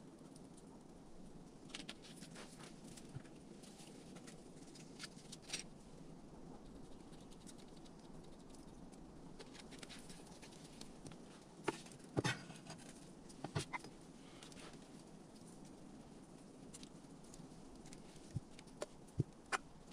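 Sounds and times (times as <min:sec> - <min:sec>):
low background noise: 0:00.0 - 0:19.9.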